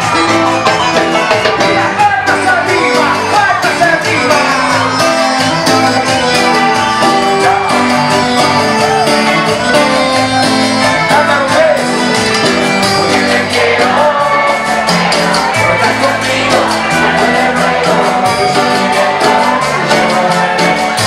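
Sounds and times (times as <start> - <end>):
live band with singer: 0.0 - 21.0.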